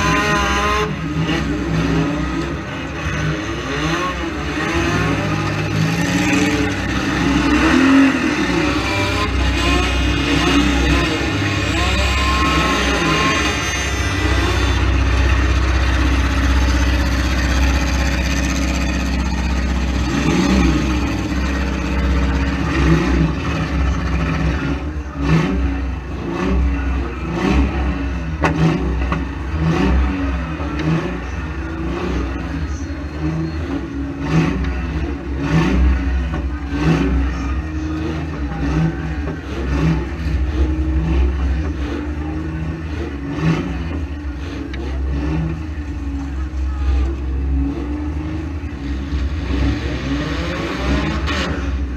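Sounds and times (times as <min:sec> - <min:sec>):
car engines revving: 0:00.0 - 0:51.9.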